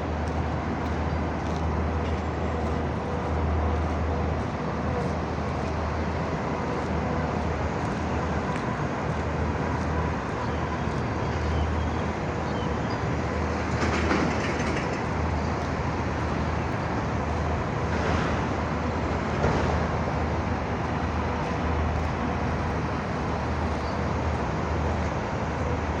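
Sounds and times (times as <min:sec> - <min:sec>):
constant hum: 0:00.0 - 0:26.0
low city rumble: 0:00.0 - 0:26.0.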